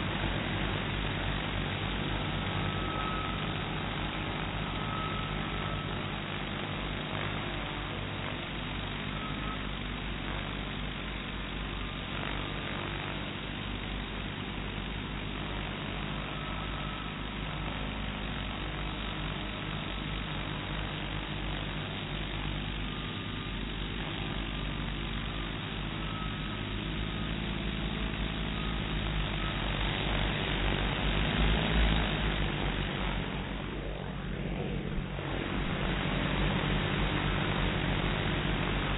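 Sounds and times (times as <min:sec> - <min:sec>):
drone buzzing hum: 0:00.0 - 0:38.9.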